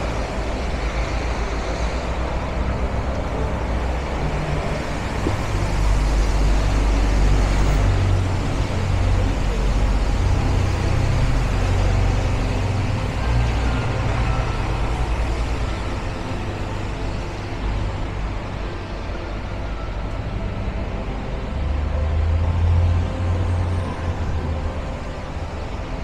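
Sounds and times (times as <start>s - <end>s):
road noise: 0.0s - 26.0s
vehicle engine rumble: 0.0s - 26.0s.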